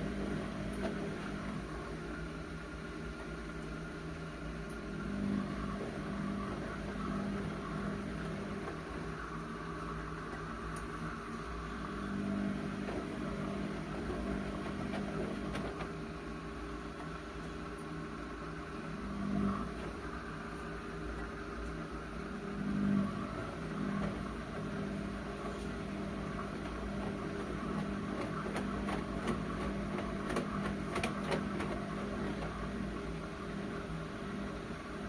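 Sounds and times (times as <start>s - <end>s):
washing machine motor hum: 0.0s - 35.0s.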